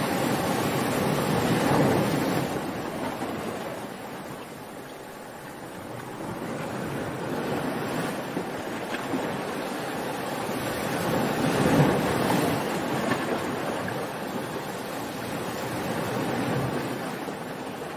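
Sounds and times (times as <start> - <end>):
small waves washing up beach: 0.0 - 17.9.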